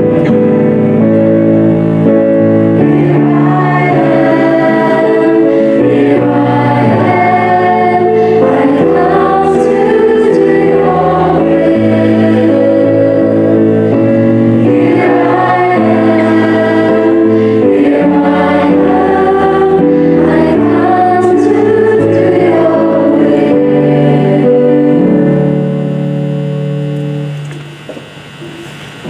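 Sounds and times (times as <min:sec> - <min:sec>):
held accompanying chords: 0:00.0 - 0:29.0
choir singing: 0:02.2 - 0:25.7.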